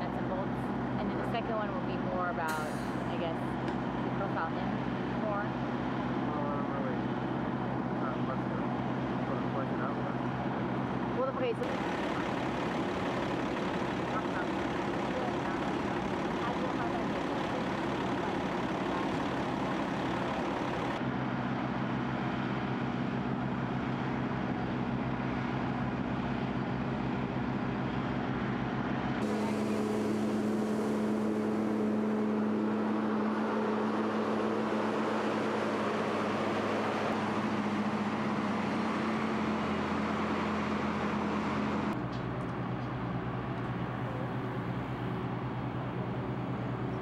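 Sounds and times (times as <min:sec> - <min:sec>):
truck engines running: 0:00.0 - 0:47.0.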